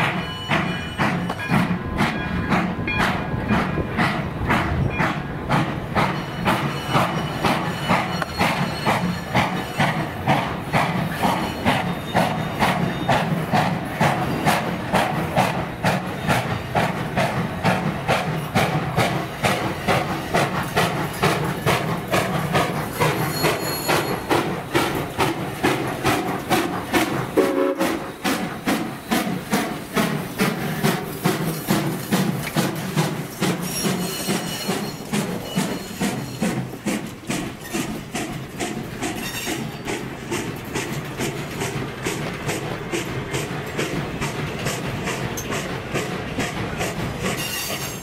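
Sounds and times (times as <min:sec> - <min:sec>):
steam locomotive chuffing: 0:00.0 - 0:48.0.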